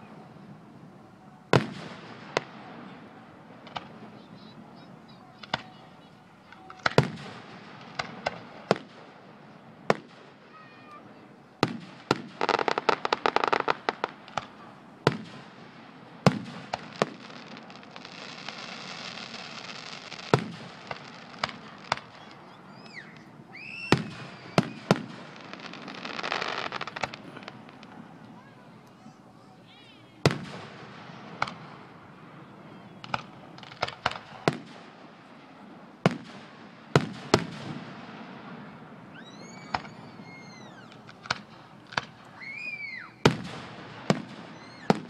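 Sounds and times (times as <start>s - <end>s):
firework shells booming: 1.5s - 4.5s, 6.4s - 10.6s, 11.6s - 28.2s, 30.2s - 32.4s, 33.0s - 45.0s
rapid firework crackling: 1.5s - 28.3s, 30.2s - 32.4s, 33.0s - 45.0s.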